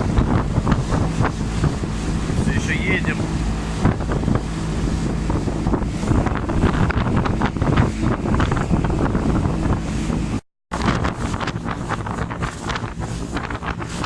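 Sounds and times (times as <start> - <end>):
motorboat engine hum: 0.0 - 14.0
water splashing against boat: 0.0 - 14.0
wind buffeting microphone: 0.0 - 14.0.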